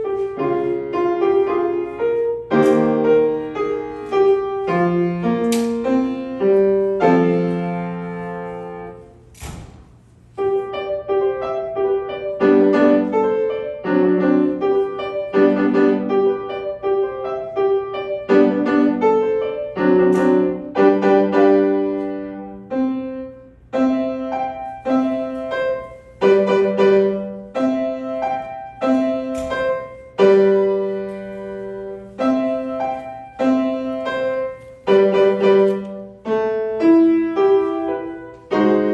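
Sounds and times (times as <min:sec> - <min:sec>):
solo piano playing: 0:00.0 - 0:09.3, 0:10.1 - 0:38.9.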